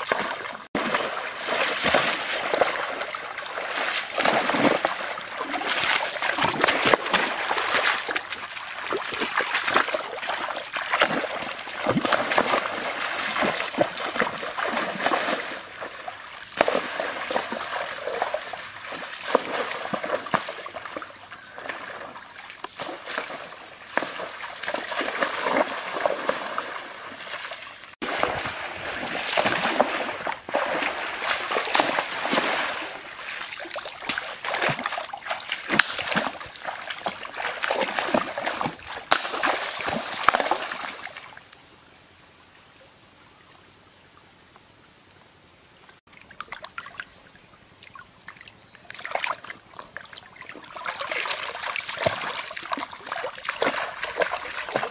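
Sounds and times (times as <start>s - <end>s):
river water splashing and trickling: 0.0s - 45.0s, 45.7s - 54.9s.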